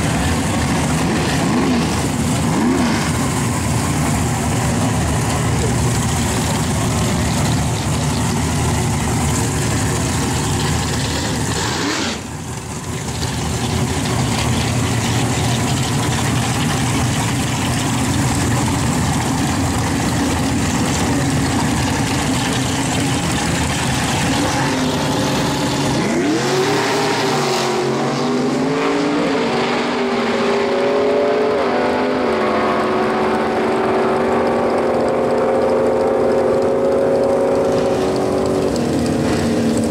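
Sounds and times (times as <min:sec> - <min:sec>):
drag racing car engines roaring: 0:00.0 - 0:39.9.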